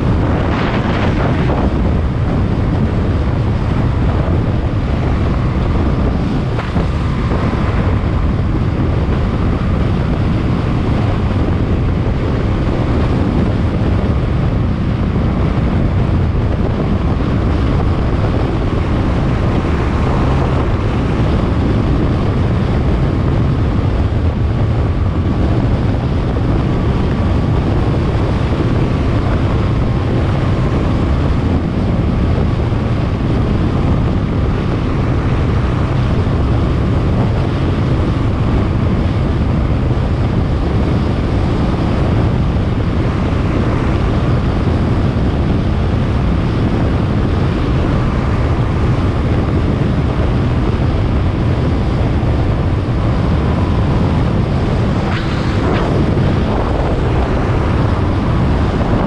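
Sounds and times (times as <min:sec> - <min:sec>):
faint steady whine: 0:00.0 - 0:59.0
road noise: 0:00.0 - 0:59.0
wind buffeting microphone: 0:00.0 - 0:59.0.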